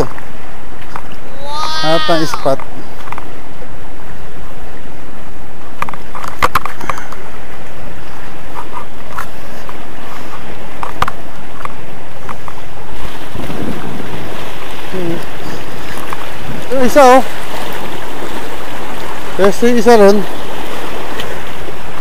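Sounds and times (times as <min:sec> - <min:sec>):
surf washing against rocks: 0:00.0 - 0:22.0
wind: 0:00.0 - 0:22.0.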